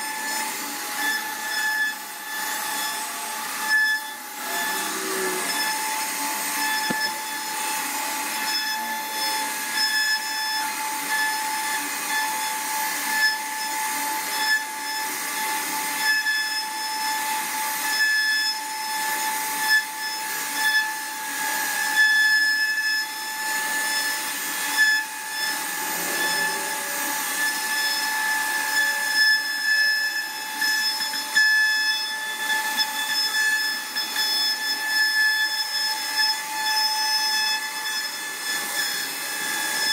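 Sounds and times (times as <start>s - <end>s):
bit cutting wood: 0.0s - 39.9s
router spindle whining: 0.0s - 39.9s.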